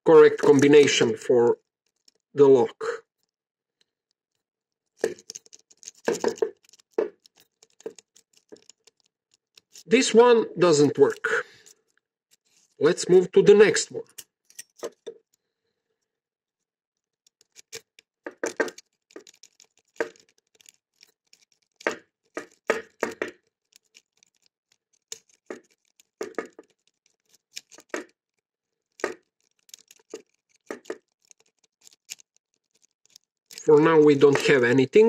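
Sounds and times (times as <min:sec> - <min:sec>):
key clicking and scraping in lock: 0:01.6 - 0:02.3, 0:03.1 - 0:10.0, 0:10.8 - 0:12.8, 0:14.0 - 0:15.4, 0:17.0 - 0:35.0.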